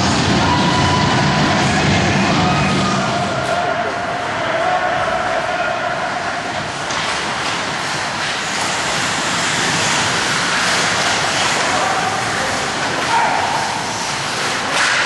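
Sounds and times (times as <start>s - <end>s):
ice hockey game noise: 0.0s - 15.0s.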